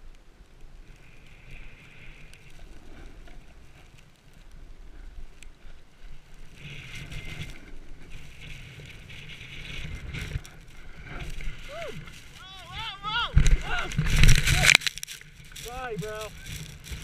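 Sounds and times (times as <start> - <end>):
skis sliding over packed snow: 0.0 - 17.0
wind rushing over microphone: 1.0 - 17.0.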